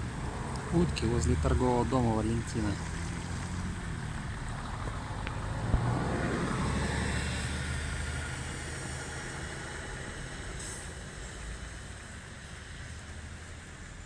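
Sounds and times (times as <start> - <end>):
car driving past: 0.0 - 11.4.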